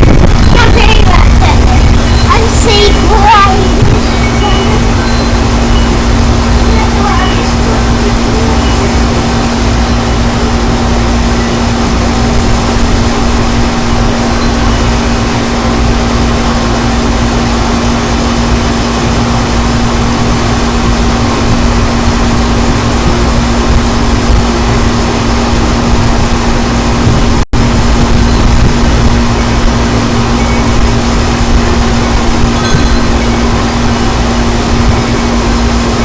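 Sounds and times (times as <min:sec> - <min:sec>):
constant hum: 0:00.0 - 0:36.0
wind buffeting microphone: 0:00.0 - 0:36.0.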